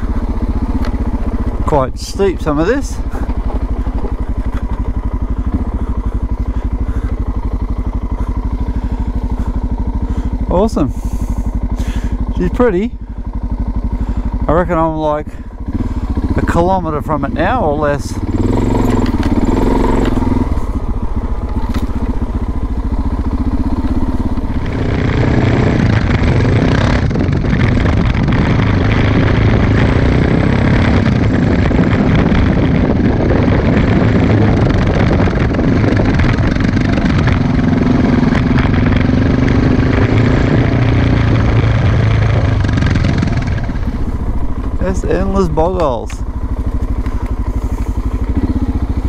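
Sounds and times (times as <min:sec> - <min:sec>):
motorcycle engine running: 0:00.0 - 0:49.0
wind and tyre rushing: 0:00.0 - 0:49.0.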